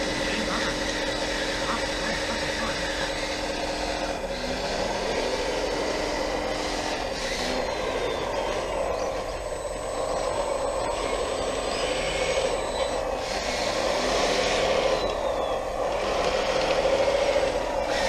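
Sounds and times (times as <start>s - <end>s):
toy bulldozer mechanical whine: 0.0s - 18.0s.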